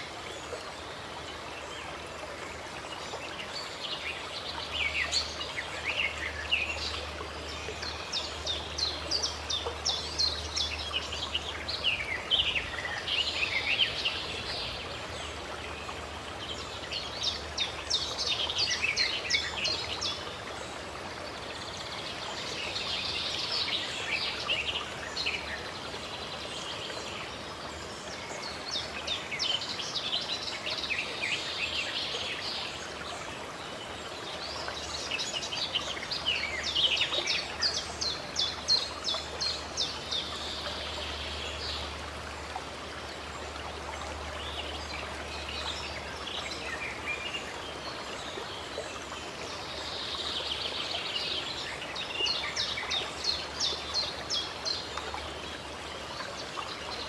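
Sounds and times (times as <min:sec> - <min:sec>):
running water from fountain: 0:00.0 - 0:57.0
songbirds singing: 0:00.0 - 0:57.0.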